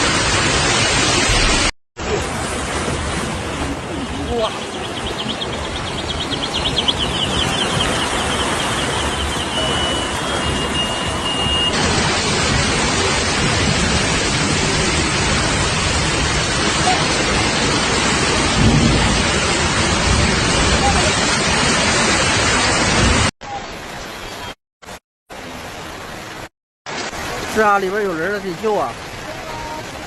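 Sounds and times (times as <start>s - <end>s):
heavy rain and floodwater rushing: 0.0s - 30.0s.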